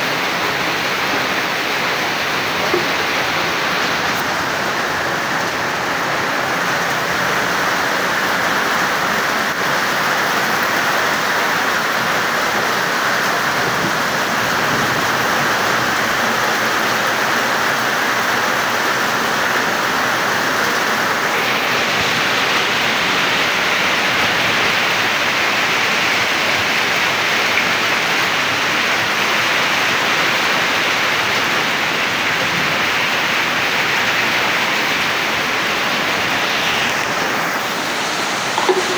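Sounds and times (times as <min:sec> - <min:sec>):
heavy rain pouring: 0:00.0 - 0:38.9
water streaming off roof: 0:00.0 - 0:38.9.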